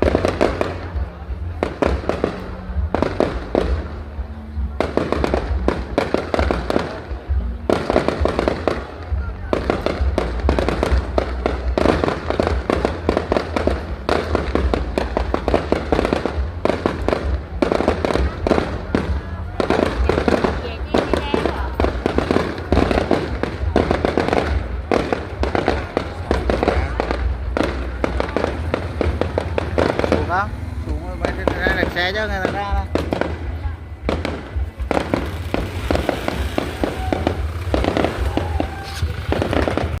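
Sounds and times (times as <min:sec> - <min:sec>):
fireworks popping and crackling: 0:00.0 - 0:40.0
low rumble: 0:07.0 - 0:40.0.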